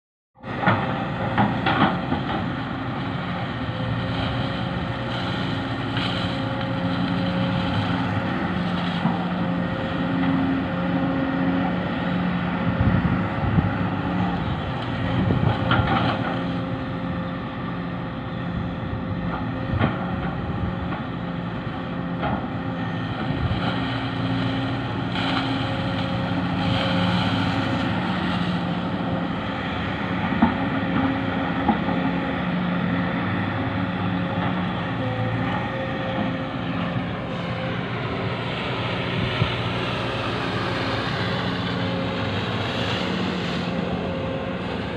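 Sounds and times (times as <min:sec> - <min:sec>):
diesel engine running: 0:00.4 - 0:44.9.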